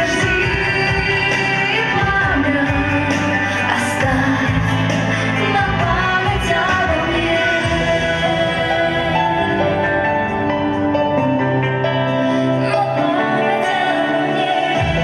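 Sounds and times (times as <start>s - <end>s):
person singing: 0.0s - 11.2s, 11.9s - 15.0s.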